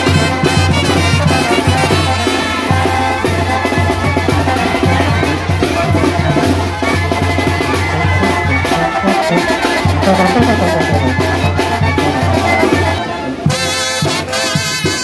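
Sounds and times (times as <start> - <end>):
music with drums and bass: 0.0 - 15.0.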